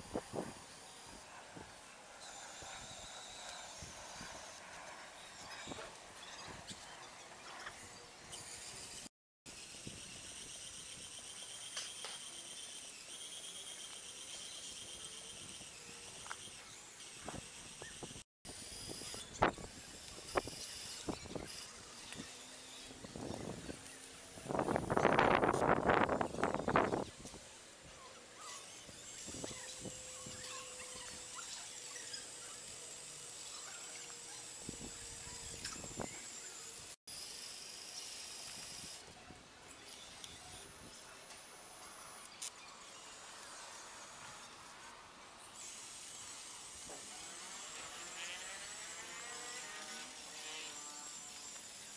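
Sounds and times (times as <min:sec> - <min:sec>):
electric motors whining: 0:00.0 - 0:51.9.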